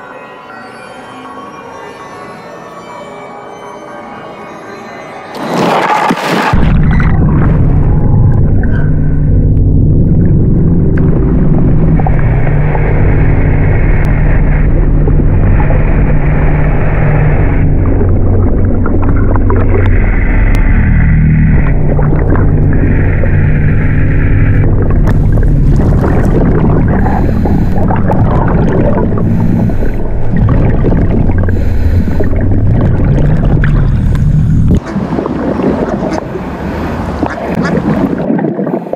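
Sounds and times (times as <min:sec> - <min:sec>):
water gurgling and bubbling: 0:05.6 - 0:38.9
motorboat engine drone: 0:06.6 - 0:38.2.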